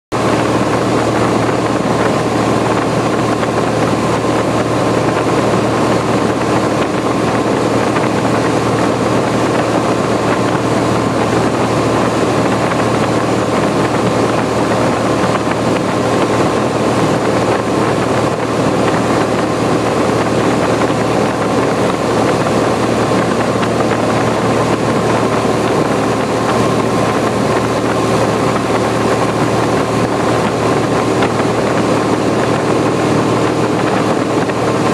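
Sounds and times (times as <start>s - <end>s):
airplane engine drone in cabin: 0.1s - 34.9s.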